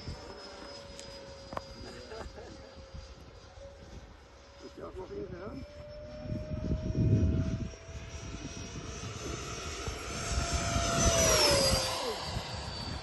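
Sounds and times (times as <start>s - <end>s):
model jet fan whine: 0.0s - 13.0s
wind buffeting microphone: 1.5s - 13.0s.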